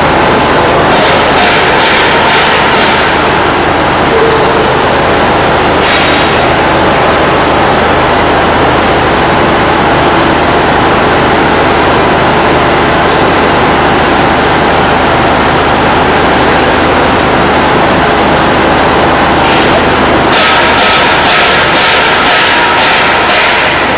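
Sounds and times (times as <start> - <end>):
low machinery hum: 0.0 - 23.9
machinery rushing noise: 0.0 - 23.9.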